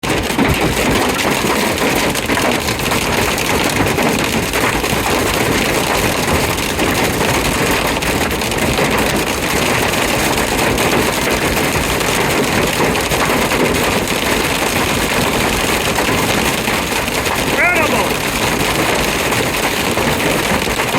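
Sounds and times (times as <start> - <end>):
hail and heavy rain drumming: 0.0 - 20.9.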